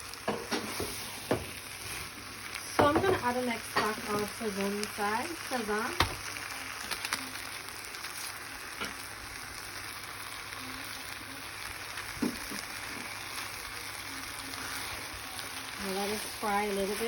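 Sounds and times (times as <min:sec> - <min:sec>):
food frying in oil: 0:00.0 - 0:17.0.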